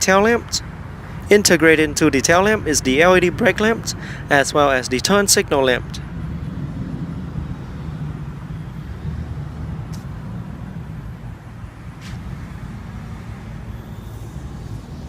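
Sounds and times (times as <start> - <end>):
low rumble of background noise: 0.0 - 15.0.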